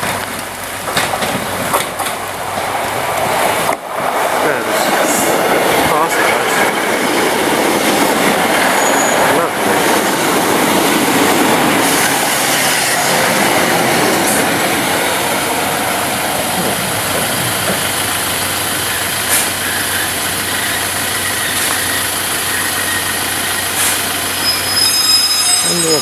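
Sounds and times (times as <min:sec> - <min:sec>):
diesel train engine: 0:00.0 - 0:26.0.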